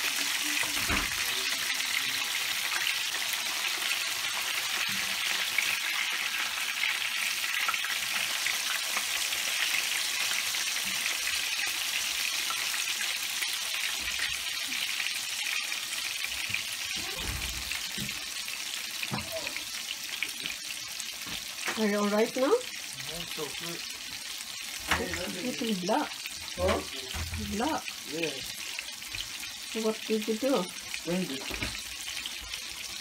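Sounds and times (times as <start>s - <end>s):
fish frying in hot oil: 0.0s - 33.0s.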